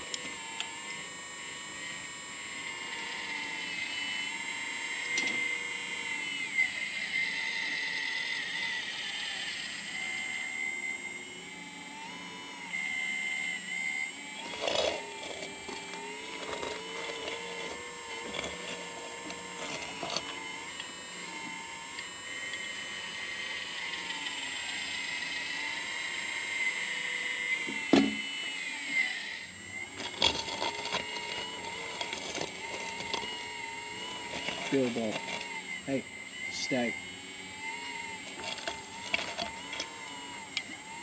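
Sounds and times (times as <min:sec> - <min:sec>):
excavator motor whine: 0:00.0 - 0:41.0.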